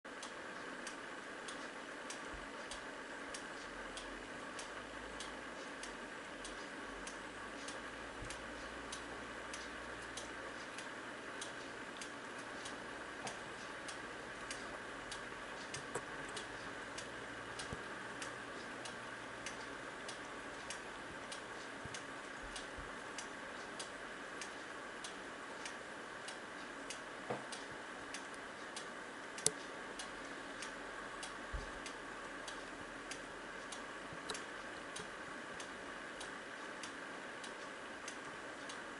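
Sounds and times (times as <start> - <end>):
pendulum clock ticking: 0.1 - 38.9.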